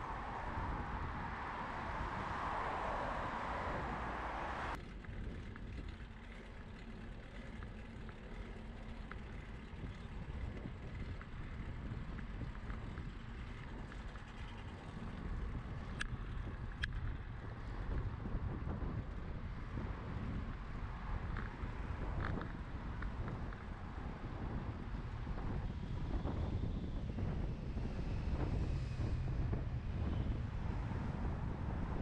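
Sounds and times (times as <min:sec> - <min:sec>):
road traffic noise: 0:00.0 - 0:32.0
wind rumble on microphone: 0:00.0 - 0:32.0.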